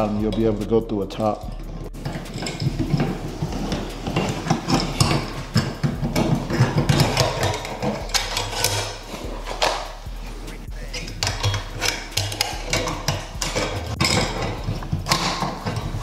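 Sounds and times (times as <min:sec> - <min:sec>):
fish tape clattering and scraping: 0:01.2 - 0:10.2, 0:10.9 - 0:16.0.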